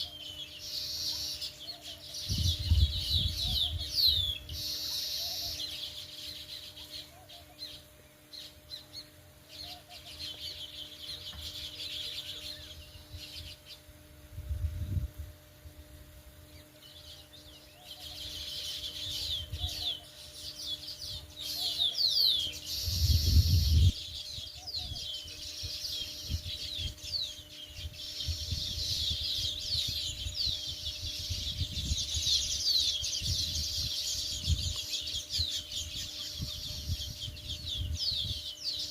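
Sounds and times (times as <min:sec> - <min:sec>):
sparrows chirping: 0:00.0 - 0:15.2, 0:15.8 - 0:38.9.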